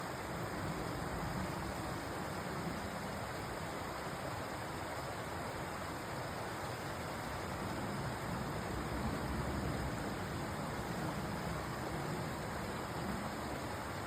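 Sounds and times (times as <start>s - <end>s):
stream flowing water: 0.0s - 14.0s.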